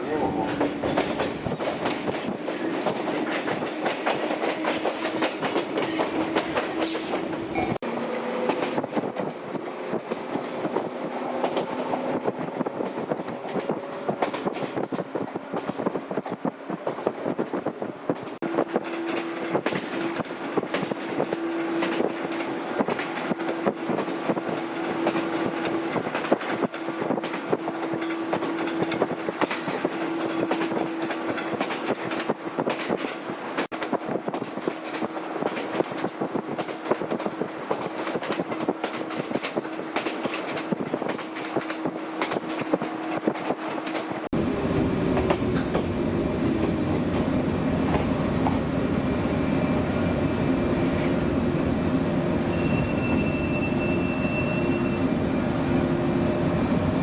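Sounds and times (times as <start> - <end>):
electric train hum: 0.0 - 57.0.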